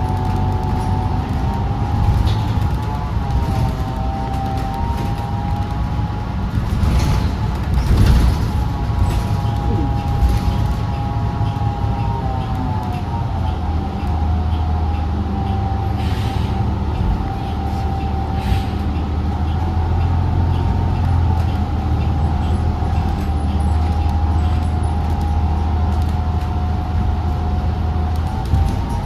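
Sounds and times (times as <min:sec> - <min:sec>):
bus engine low drone: 0:00.0 - 0:29.0.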